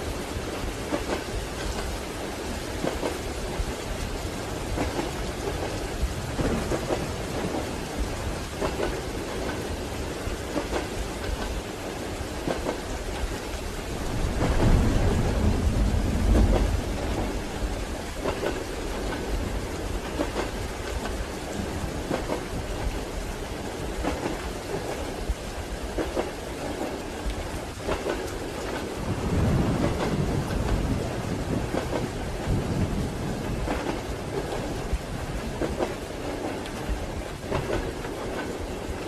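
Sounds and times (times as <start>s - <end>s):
low rumble of thunder: 0.0s - 38.8s
steady rain: 0.0s - 39.0s.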